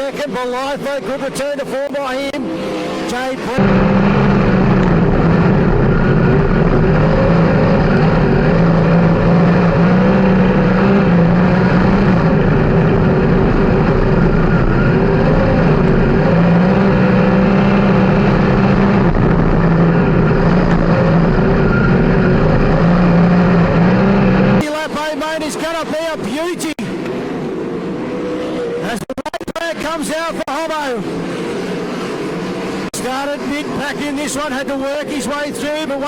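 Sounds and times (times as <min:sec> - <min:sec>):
race car engines running hard: 0:00.0 - 0:36.0.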